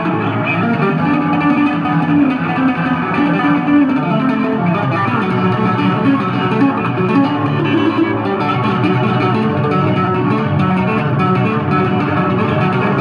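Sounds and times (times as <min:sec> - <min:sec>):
electric bass guitar tapping: 0:00.0 - 0:13.0.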